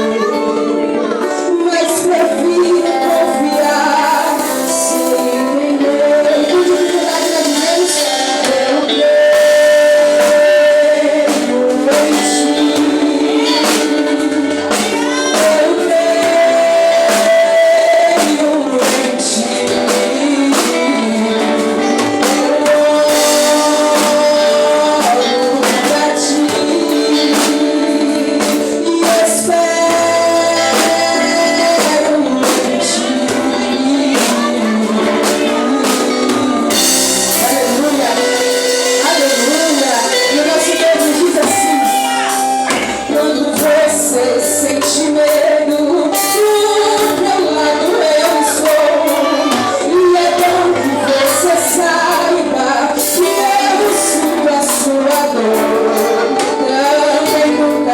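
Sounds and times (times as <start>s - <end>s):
drums: 0.0s - 57.9s
guitar: 0.0s - 57.9s
voices singing held notes: 0.0s - 57.9s.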